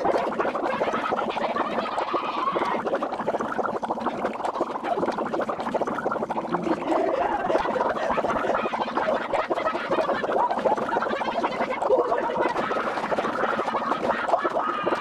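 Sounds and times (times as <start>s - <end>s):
sped-up garbled voice babble: 0.0s - 15.0s.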